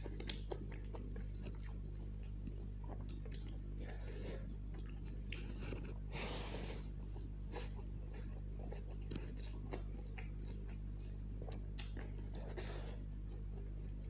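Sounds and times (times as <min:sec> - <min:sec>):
wet chewing: 0:00.0 - 0:06.1, 0:06.7 - 0:14.0
steady low hum: 0:00.0 - 0:14.0.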